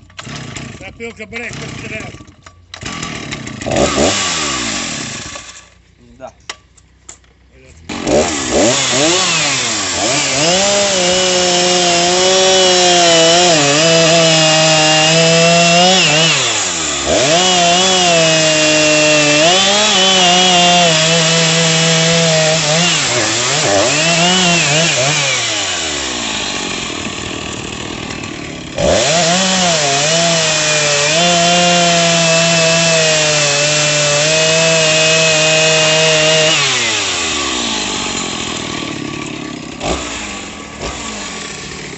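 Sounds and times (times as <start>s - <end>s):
chainsaw engine revving: 0.0s - 5.8s, 7.7s - 41.9s.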